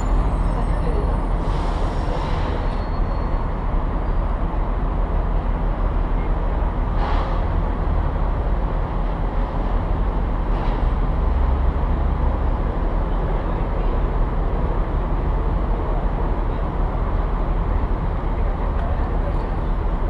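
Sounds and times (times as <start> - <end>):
city street traffic rumble: 0.0 - 20.0.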